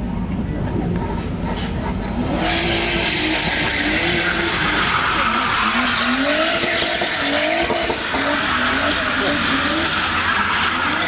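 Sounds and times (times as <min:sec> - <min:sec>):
engines revving: 0:00.0 - 0:11.0
tyre squeal: 0:01.1 - 0:11.0.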